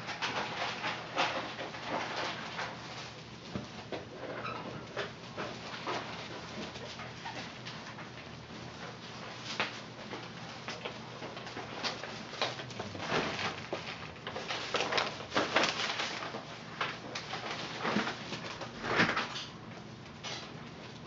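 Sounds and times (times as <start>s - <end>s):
puppies scuffling on crinkly pads: 0.0s - 21.0s.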